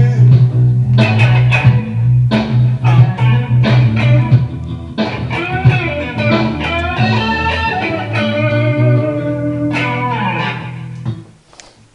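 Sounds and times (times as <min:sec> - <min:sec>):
bass line: 0:00.0 - 0:11.2
electric guitar playing: 0:00.0 - 0:11.4.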